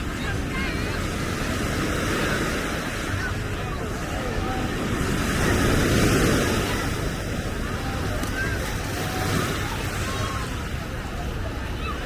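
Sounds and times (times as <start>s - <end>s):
ocean surf breaking on beach: 0.0s - 11.8s.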